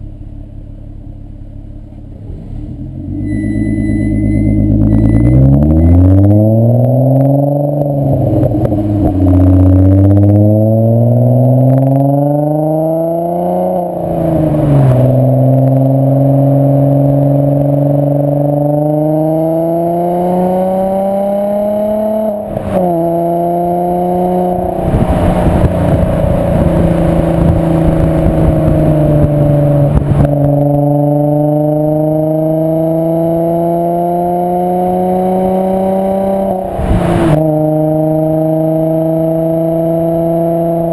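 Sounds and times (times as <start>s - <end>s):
car engine accelerating through gears: 1.9s - 40.9s.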